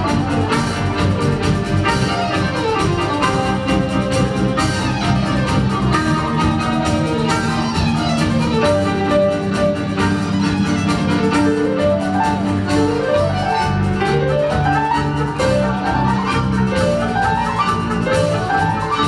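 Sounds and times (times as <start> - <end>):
small instrumental ensemble playing: 0.0 - 19.0.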